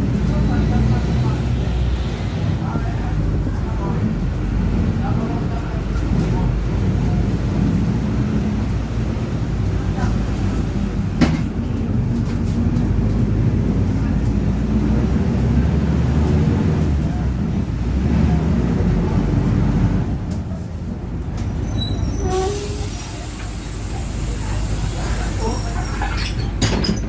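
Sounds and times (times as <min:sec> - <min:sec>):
bus diesel engine running: 0:00.0 - 0:27.0.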